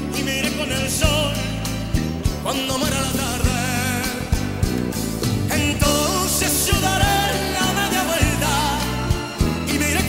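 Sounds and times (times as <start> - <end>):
band with bass and drums: 0.0 - 10.0
man singing: 0.0 - 10.0.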